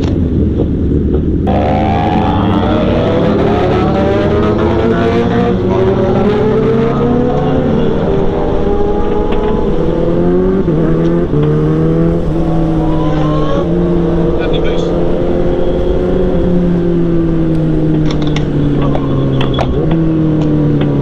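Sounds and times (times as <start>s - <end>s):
motorcycle engine accelerating: 0.0s - 21.0s
wind and road noise: 0.0s - 21.0s.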